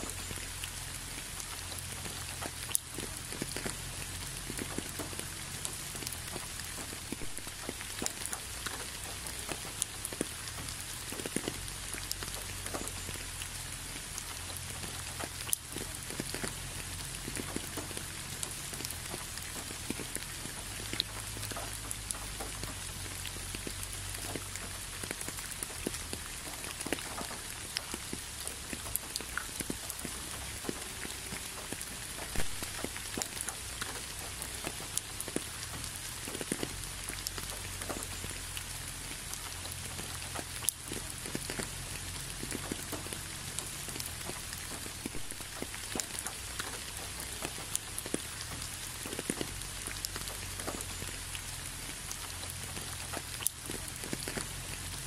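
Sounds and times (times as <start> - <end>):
raindrops striking close by: 0.0 - 55.0
steady rain falling: 0.0 - 55.0.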